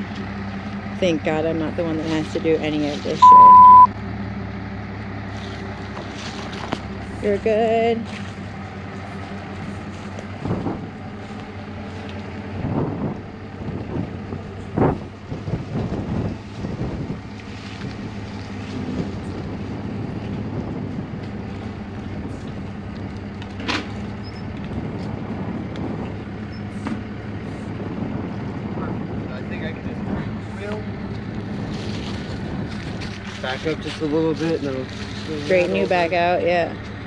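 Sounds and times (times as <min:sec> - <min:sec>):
truck engine running: 0:00.0 - 0:37.0.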